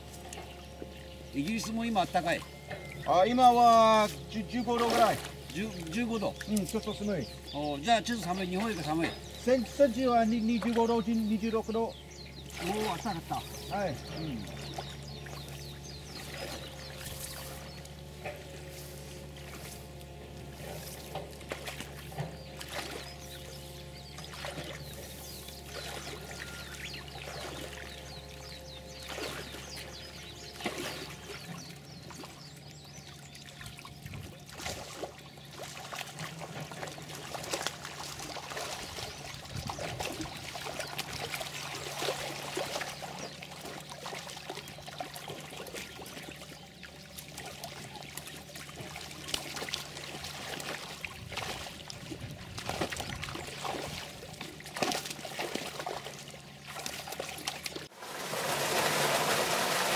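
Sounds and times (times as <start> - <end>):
low steady hum: 0.0 - 59.9
water splashing and sloshing: 0.0 - 59.9.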